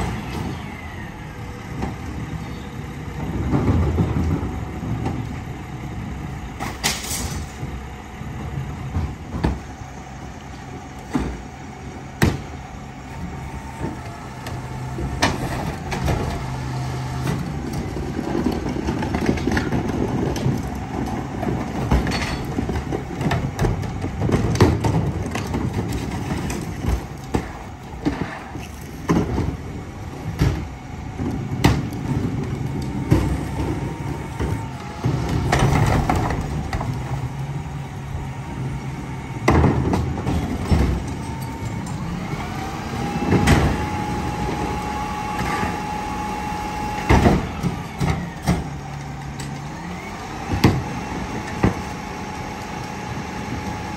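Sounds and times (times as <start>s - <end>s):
garbage truck engine running: 0.0s - 53.9s.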